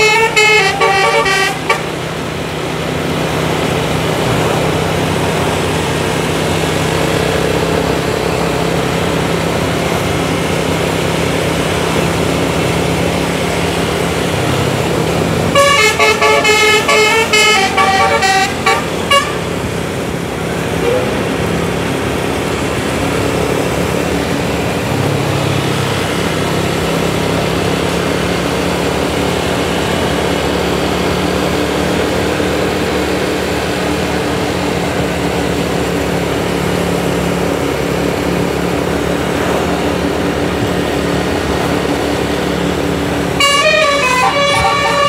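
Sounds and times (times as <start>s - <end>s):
bus diesel engine droning: 0.0s - 45.0s.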